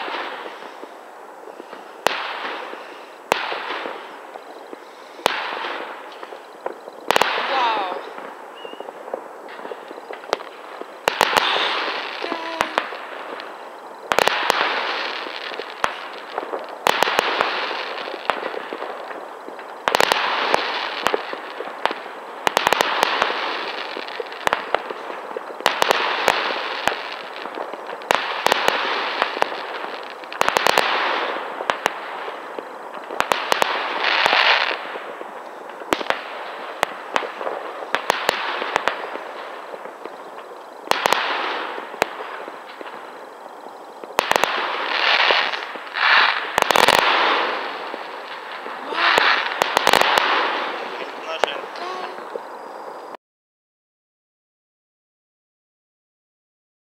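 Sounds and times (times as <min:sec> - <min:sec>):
fireworks bangs with hiss: 0:00.0 - 0:53.2.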